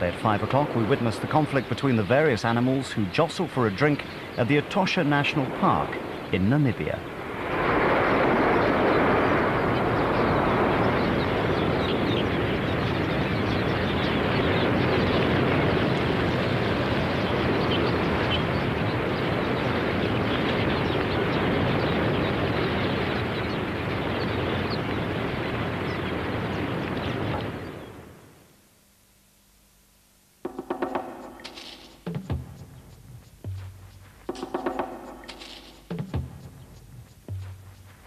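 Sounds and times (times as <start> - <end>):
dense bird chirping: 0.0 - 28.1, 30.5 - 38.0.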